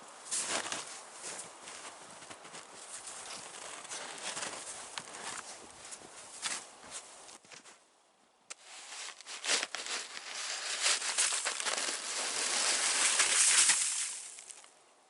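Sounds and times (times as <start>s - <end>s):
shovel crunching and scraping snow: 0.2s - 7.8s, 8.5s - 14.6s.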